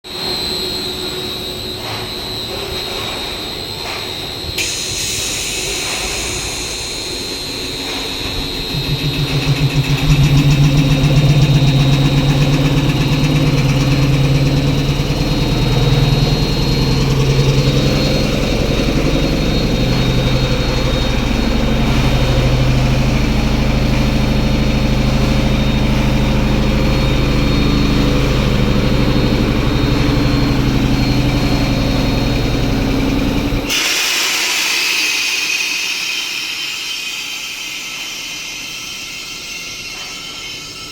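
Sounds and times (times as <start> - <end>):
high whine: 0.1 - 33.9
screw compressor running drone: 0.1 - 40.9.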